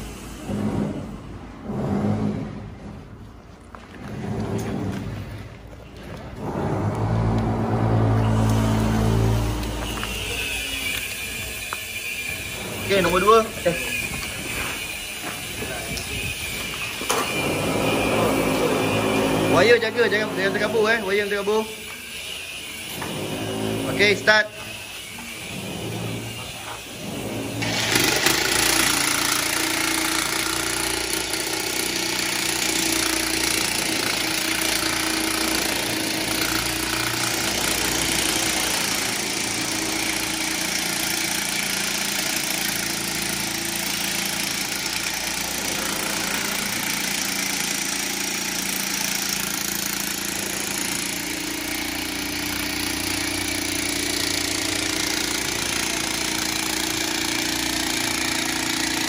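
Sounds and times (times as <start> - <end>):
electric demolition hammer running: 6.1 - 59.0.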